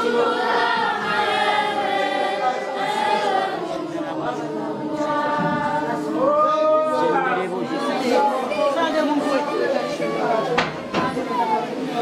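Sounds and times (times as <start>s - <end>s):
crowd singing unaccompanied: 0.0s - 12.0s.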